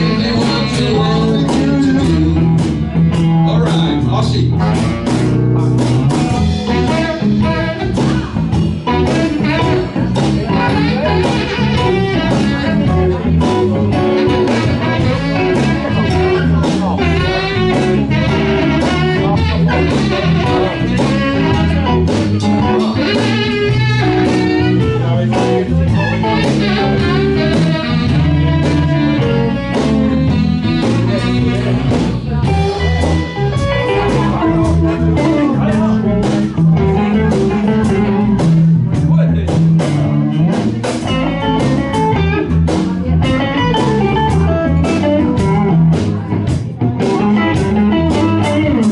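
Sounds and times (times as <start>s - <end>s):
guitar: 0.0s - 48.9s
live blues band: 0.0s - 48.9s
steady drum beat: 0.0s - 48.9s.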